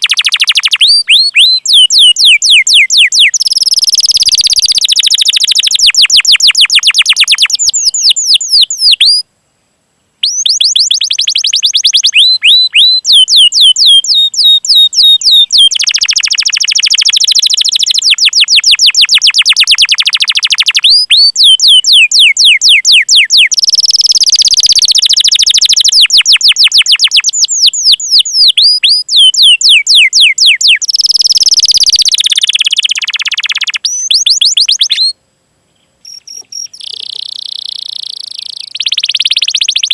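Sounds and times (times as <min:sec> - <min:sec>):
canary singing chirps: 0:00.0 - 0:09.3, 0:10.2 - 0:35.2, 0:36.0 - 0:39.9.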